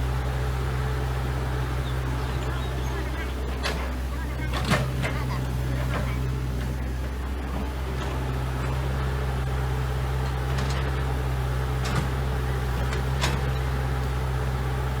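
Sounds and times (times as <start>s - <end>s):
excavator engine humming: 0.0s - 15.0s.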